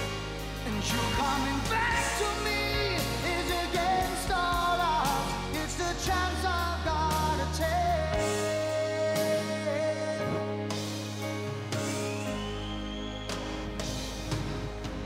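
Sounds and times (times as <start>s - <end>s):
song with sung melody: 0.0s - 15.0s.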